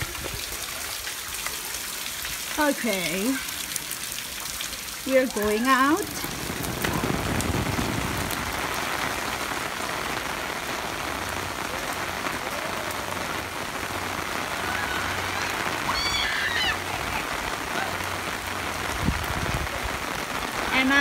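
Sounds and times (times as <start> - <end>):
rain pattering on an umbrella: 0.0 - 21.0.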